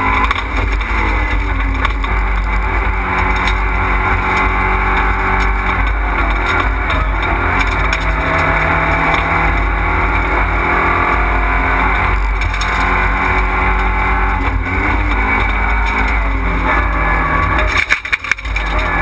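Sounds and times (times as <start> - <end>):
rally car engine running hard: 0.0 - 19.0.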